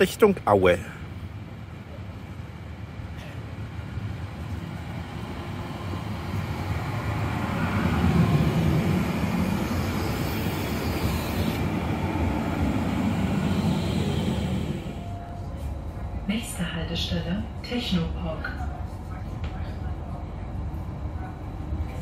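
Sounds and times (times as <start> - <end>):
tram arriving and slowing: 0.0 - 22.0.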